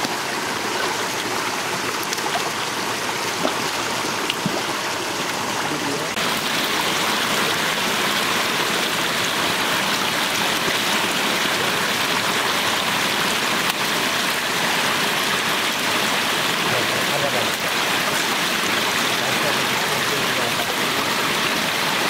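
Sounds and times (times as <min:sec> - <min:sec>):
water gushing over slats: 0:00.0 - 0:22.0.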